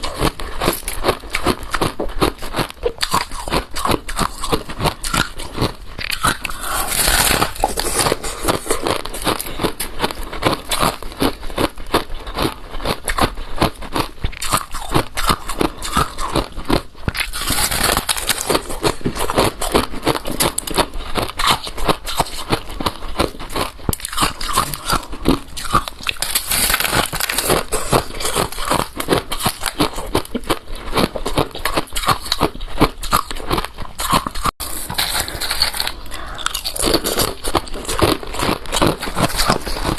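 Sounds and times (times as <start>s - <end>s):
chewing ice crunches: 0.0s - 39.9s.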